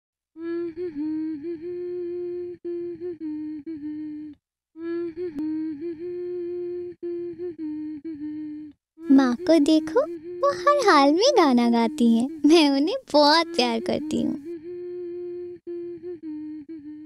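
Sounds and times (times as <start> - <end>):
woman humming a tune: 0.4 - 17.0.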